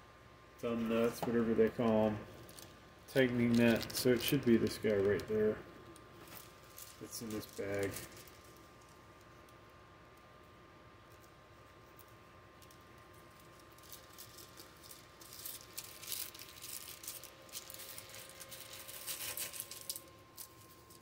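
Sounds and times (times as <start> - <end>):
plastic bag crinkling: 0.9 - 9.4, 11.9 - 21.0.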